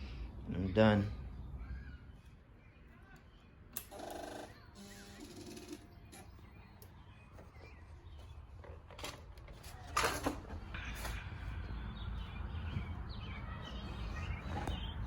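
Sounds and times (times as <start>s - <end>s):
birds chirping: 0.0s - 9.9s, 10.5s - 15.0s.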